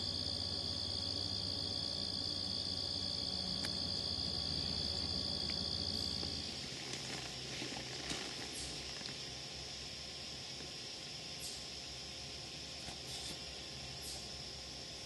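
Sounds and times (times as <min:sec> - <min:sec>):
insects trilling: 0:00.0 - 0:15.0
outdoor ambience: 0:00.0 - 0:15.0.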